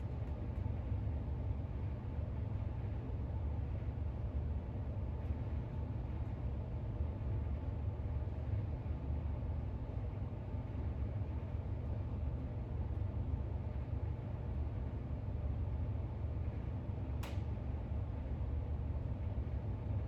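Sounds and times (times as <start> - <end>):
low rumble of room noise: 0.0 - 20.0.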